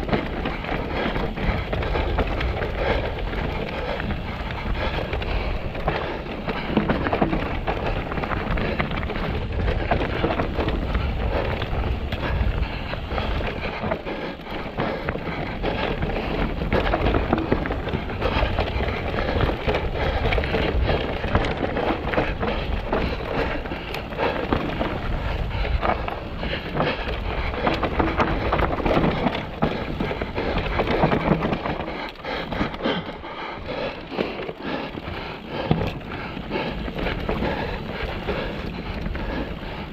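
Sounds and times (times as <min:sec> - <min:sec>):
bike frame and chain rattling: 0:00.0 - 0:39.9
bike tyres rumbling over rock: 0:00.0 - 0:39.9.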